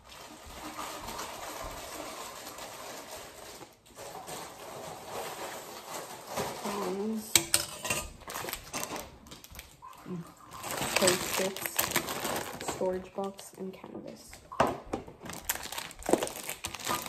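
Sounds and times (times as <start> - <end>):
packaging handling rustle: 0.0 - 7.4, 8.2 - 17.0.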